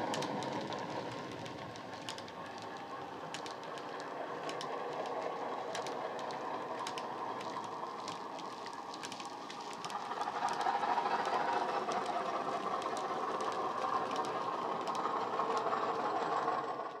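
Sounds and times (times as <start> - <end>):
model wagon wheels clicking on track: 0.0 - 17.0.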